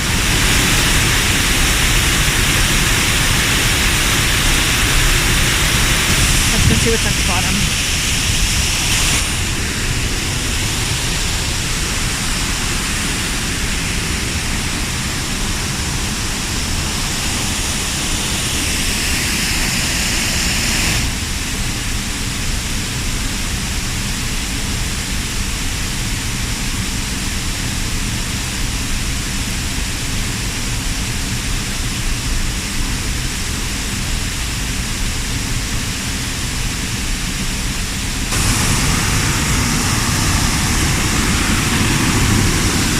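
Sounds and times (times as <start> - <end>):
rush of falling water: 0.0 - 42.9.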